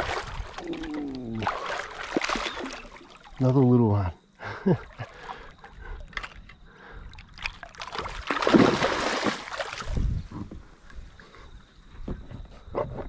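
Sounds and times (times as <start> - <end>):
water splashing around a kayak: 0.0 - 12.1.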